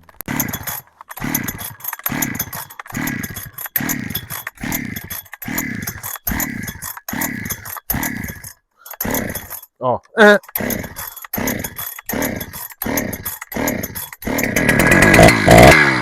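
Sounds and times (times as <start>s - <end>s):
chainsaw recoil starter pulls: 0.0s - 16.0s
engine cranking whir: 0.0s - 16.0s.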